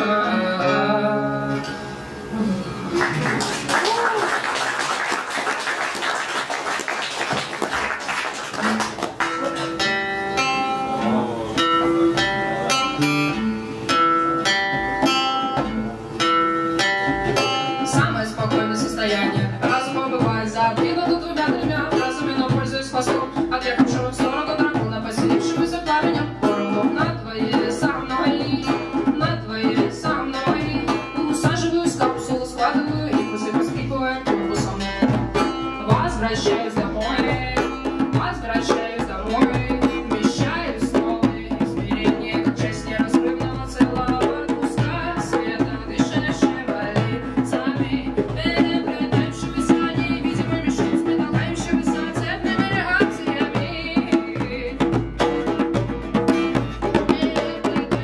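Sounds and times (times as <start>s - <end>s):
acoustic guitar picking notes: 0.0s - 3.3s, 8.6s - 58.0s
hand drums: 3.7s - 58.0s.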